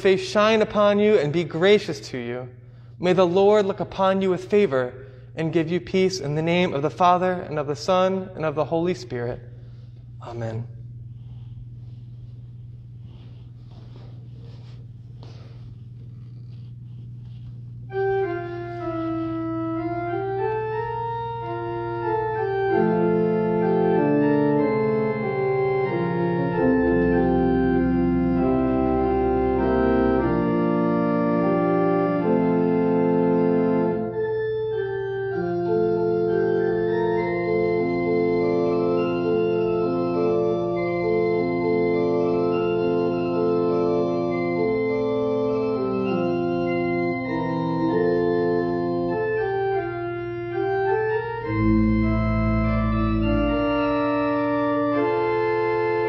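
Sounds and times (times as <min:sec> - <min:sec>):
church organ playing: 0:00.0 - 0:56.0
deep organ pedal note: 0:00.0 - 0:56.0.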